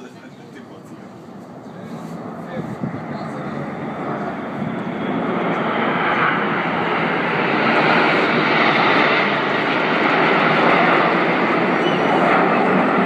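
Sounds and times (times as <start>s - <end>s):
jet engines rushing overhead: 0.0s - 13.0s.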